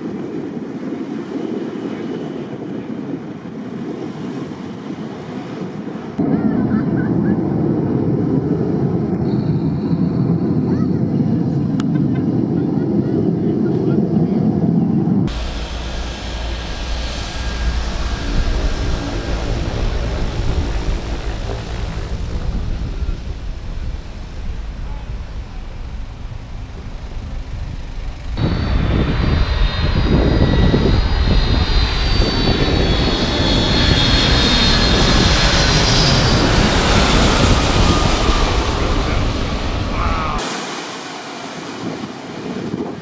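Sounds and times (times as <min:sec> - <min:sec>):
jet airliner engines whining: 0:00.0 - 0:43.0.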